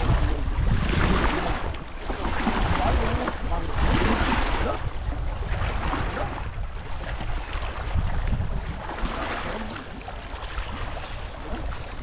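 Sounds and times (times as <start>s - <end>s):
water washing against rocks: 0.0s - 12.0s
wind buffeting the microphone: 0.0s - 12.0s.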